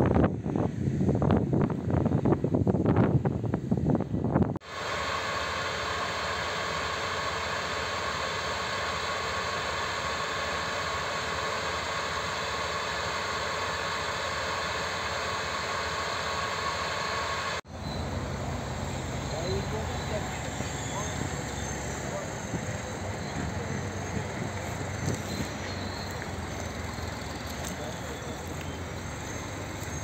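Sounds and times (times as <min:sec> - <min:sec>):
truck engine running steadily: 0:00.0 - 0:30.0.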